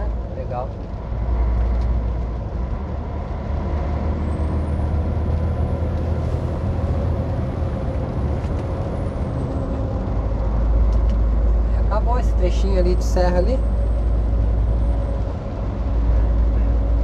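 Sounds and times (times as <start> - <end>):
truck engine drone: 0.0 - 17.0
tyres on wet asphalt: 0.0 - 17.0.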